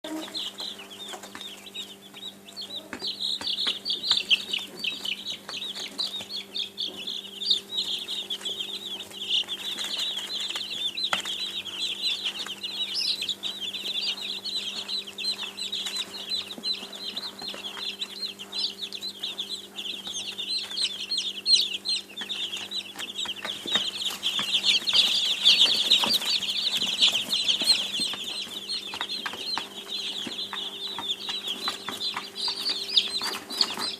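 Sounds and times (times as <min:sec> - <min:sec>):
baby chicks peeping: 0:00.0 - 0:33.9
steady low hum: 0:00.1 - 0:33.9.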